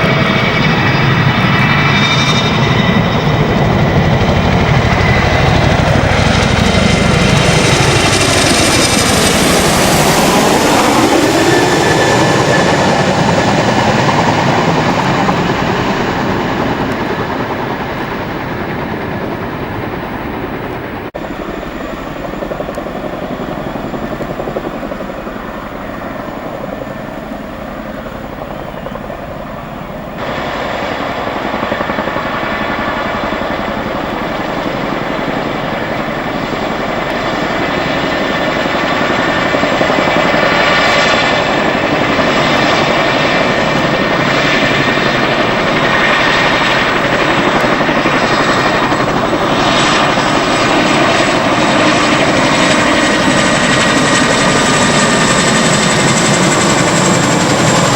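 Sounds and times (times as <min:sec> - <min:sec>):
helicopter rotor and turbine noise: 0:00.0 - 0:57.9.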